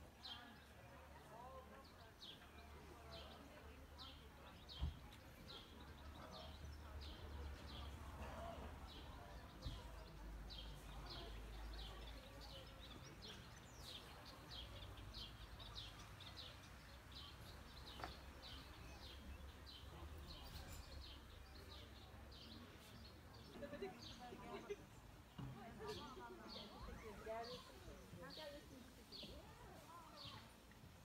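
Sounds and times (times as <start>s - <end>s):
small birds chirping: 2.1s - 31.0s.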